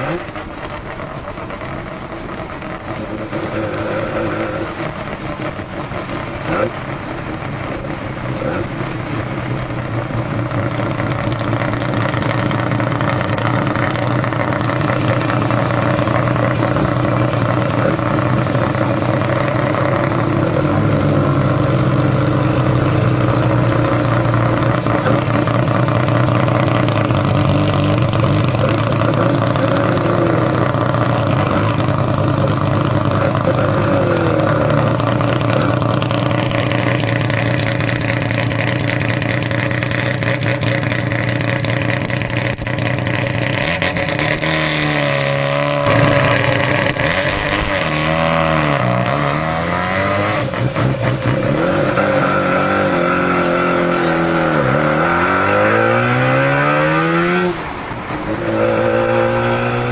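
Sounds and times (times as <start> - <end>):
rotary engine revving: 0.0 - 59.9.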